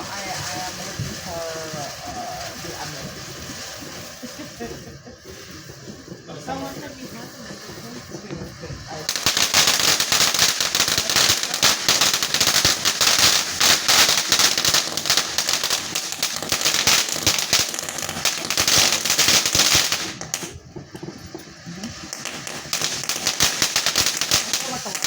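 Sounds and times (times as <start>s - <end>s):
fireworks crackling pops: 0.0s - 25.0s.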